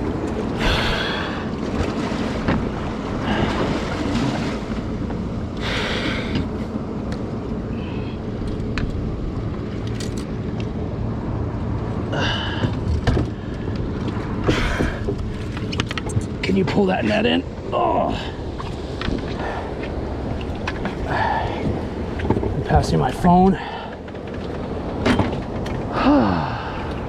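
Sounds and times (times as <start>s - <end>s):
water noise around boat: 0.0s - 27.0s
wind: 0.0s - 27.0s.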